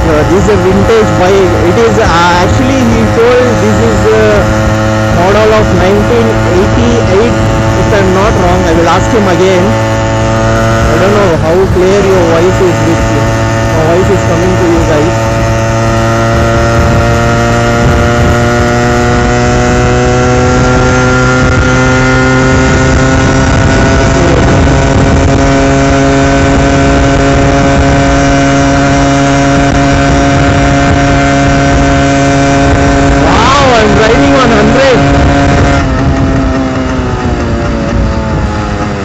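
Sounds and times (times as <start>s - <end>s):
two-stroke motorcycle engine revving: 0.0s - 39.0s.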